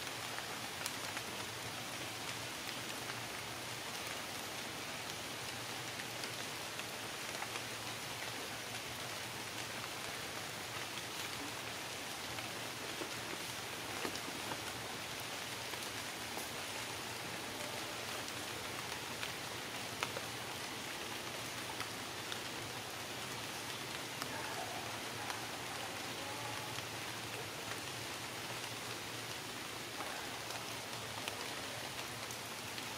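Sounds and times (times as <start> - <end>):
light rain pattering: 0.0 - 32.9.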